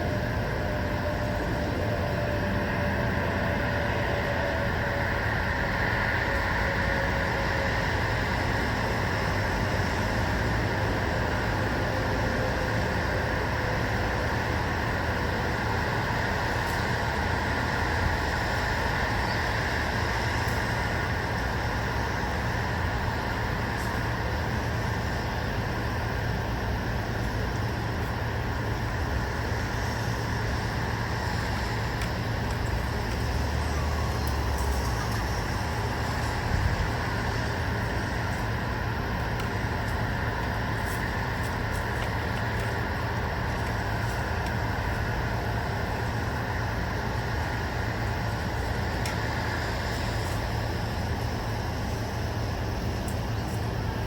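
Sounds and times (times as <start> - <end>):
white noise rush: 0.0 - 54.0.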